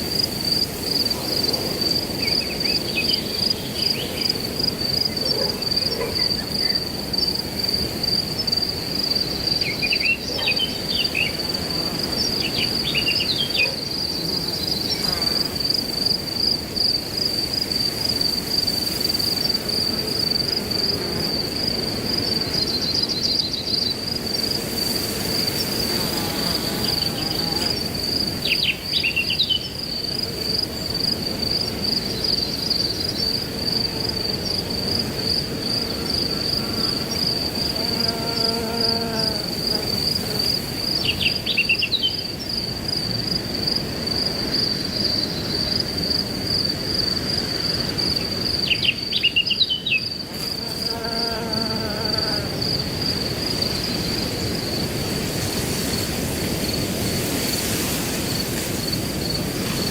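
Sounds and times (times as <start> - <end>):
crickets trilling: 0.0 - 59.9
wind through grass: 0.0 - 59.9.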